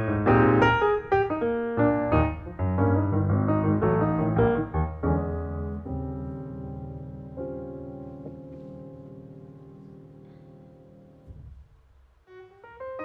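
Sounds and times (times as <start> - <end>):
piano music: 0.0 - 11.5, 12.3 - 13.0.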